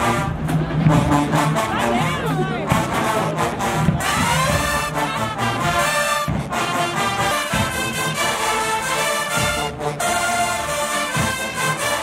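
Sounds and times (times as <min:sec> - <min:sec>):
marching brass band playing: 0:00.0 - 0:12.0.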